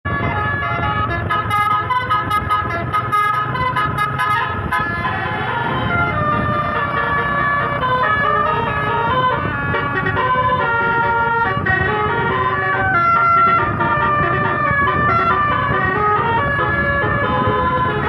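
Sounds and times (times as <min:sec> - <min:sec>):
bus horn playing a melody: 0:00.1 - 0:18.0.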